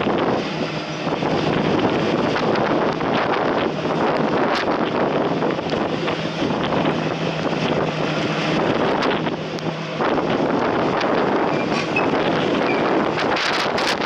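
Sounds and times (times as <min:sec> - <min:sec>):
heavy rain: 0:00.0 - 0:14.0
wind buffeting microphone: 0:00.0 - 0:14.0.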